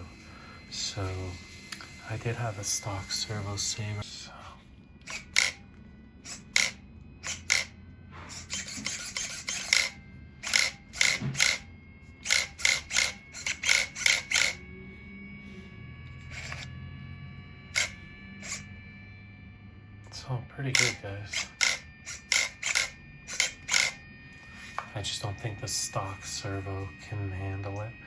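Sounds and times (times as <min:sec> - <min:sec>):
steering servo buzzing: 0:00.0 - 0:04.1, 0:05.0 - 0:28.0
faint steady whine: 0:00.0 - 0:28.0.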